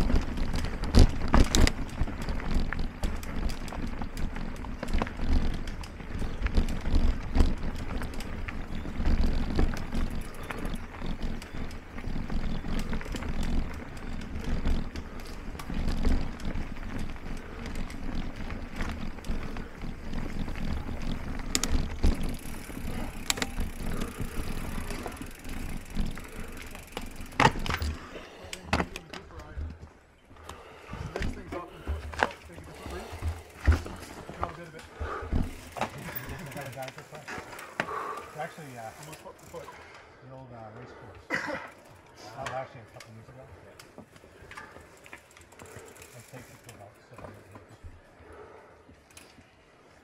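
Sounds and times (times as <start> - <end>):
bike rattling over roots: 0.0 - 40.1, 41.3 - 50.0
bicycle tyre rumble on dirt: 0.0 - 41.0, 41.7 - 50.0.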